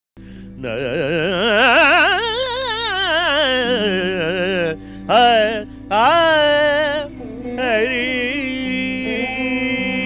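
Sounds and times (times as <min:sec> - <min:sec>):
man singing ornamented phrase: 0:00.6 - 0:10.0.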